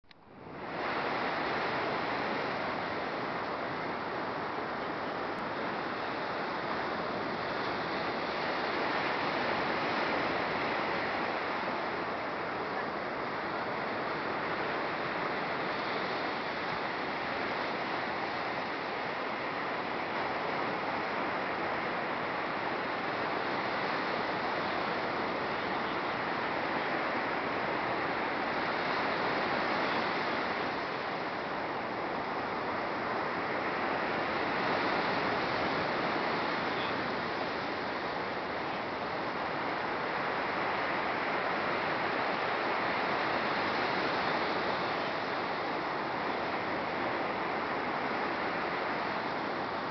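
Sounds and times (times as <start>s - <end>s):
ocean surf breaking on beach: 0.1s - 49.9s.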